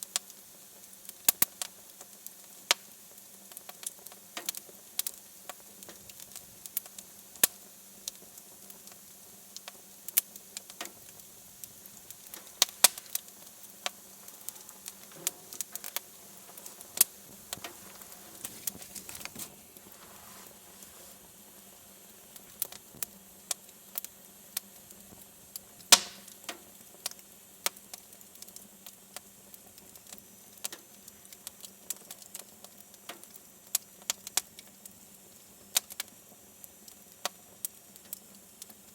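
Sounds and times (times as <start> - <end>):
wood fire crackling: 0.0 - 38.9
fire pops and snaps: 0.1 - 34.7.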